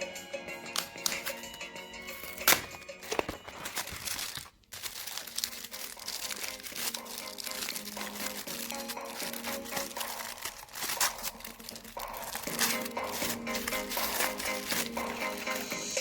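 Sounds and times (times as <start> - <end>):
faint background music: 0.0 - 16.0
candy wrappers crinkling and tearing: 0.6 - 16.0.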